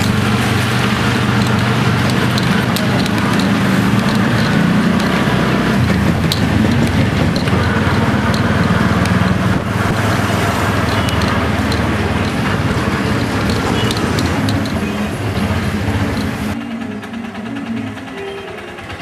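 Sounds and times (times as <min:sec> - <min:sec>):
road noise rushing: 0:00.0 - 0:17.8
motorcycle engine running: 0:00.0 - 0:19.0.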